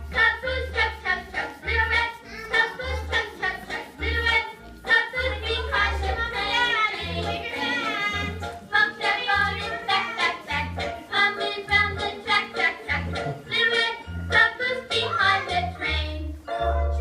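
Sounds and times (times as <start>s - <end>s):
upbeat children's song: 0.0s - 17.0s.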